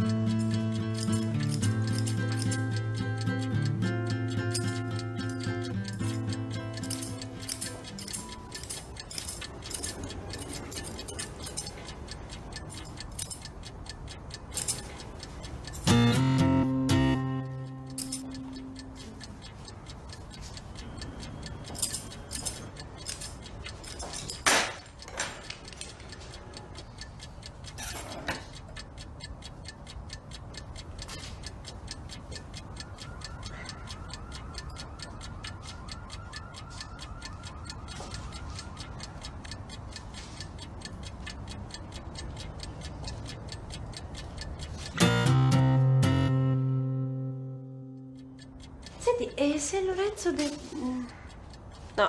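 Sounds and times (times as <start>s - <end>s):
wall clock ticking: 0.0s - 52.0s.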